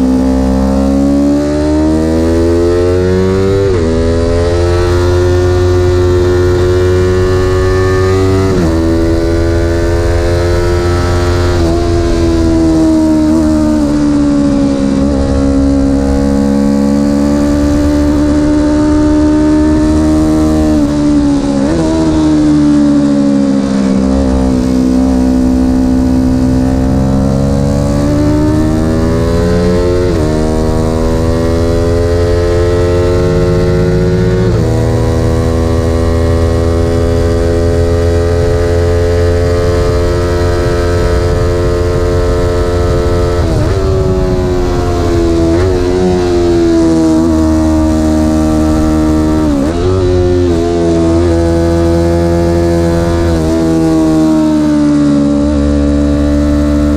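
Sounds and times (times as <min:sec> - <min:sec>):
engine running loudly: 0:00.0 - 0:56.9.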